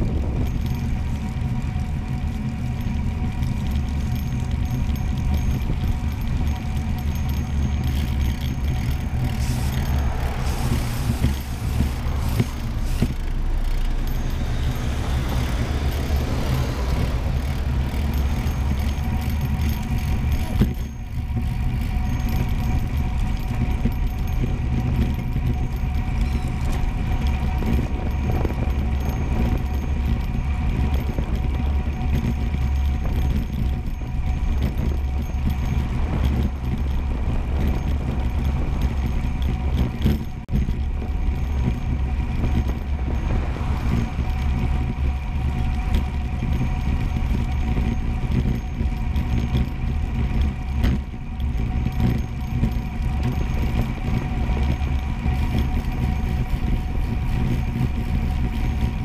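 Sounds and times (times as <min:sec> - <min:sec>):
wind rushing over microphone: 0:00.0 - 0:01.9, 0:03.0 - 0:59.0
faint steady whines: 0:00.0 - 0:59.0
road rumble: 0:00.0 - 0:59.0.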